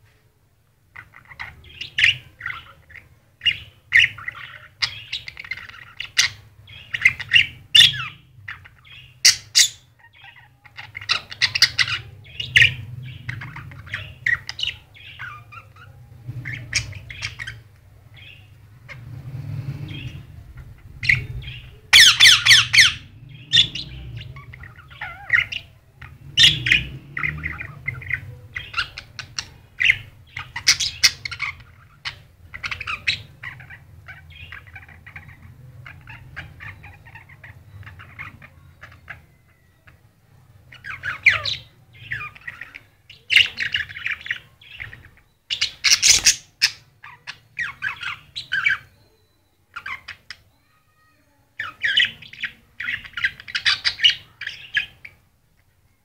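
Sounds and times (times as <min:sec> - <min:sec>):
parakeets chirping and squawking: 0:00.9 - 0:55.8.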